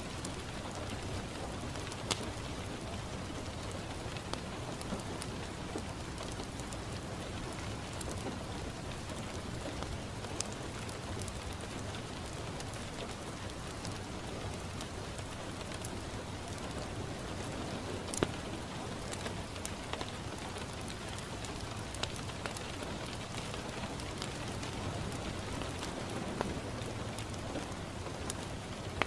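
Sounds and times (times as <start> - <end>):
rain on a window: 0.0 - 29.0
wood fire crackling and popping: 0.0 - 29.0.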